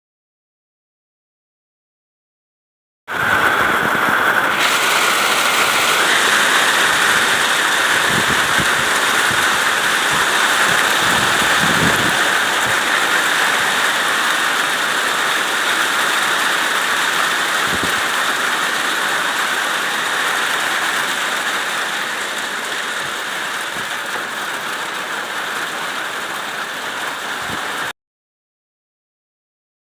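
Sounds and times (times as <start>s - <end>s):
hail striking surfaces: 3.4s - 27.9s.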